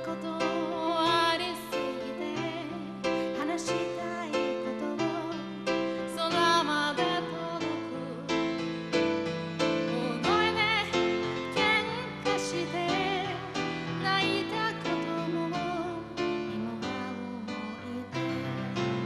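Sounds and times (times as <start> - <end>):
woman singing with vibrato: 0.0 - 8.4, 9.9 - 19.0
keyboard piano chords: 0.0 - 19.0.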